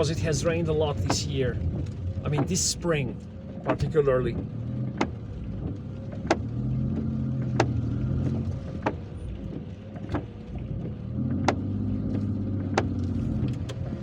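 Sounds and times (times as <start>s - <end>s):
car engine humming: 0.0s - 14.0s
windshield wipers knocking: 0.0s - 14.0s.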